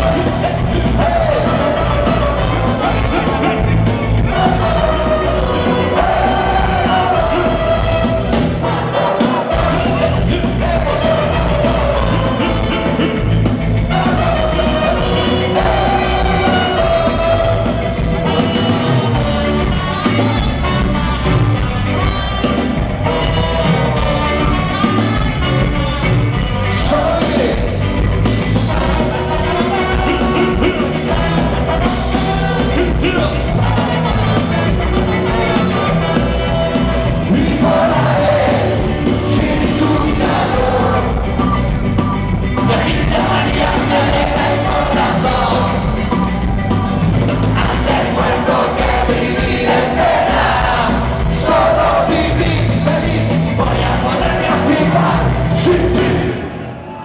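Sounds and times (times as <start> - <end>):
man singing: 0.0 - 41.3, 42.6 - 45.9, 47.5 - 56.6
live ska band playing: 0.0 - 57.0.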